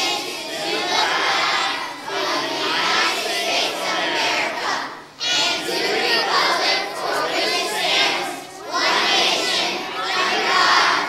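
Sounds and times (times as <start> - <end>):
group reciting in unison: 0.0 - 11.0.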